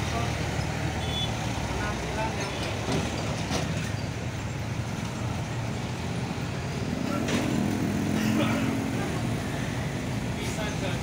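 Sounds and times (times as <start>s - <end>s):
engine hum: 0.0s - 11.0s
road traffic passing: 0.0s - 11.0s.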